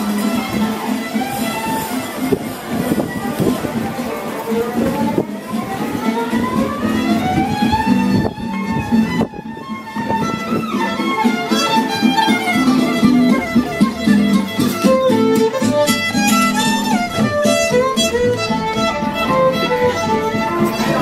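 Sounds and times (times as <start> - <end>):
guitar accompaniment: 0.0 - 21.0
violin playing lively melody: 0.0 - 21.0.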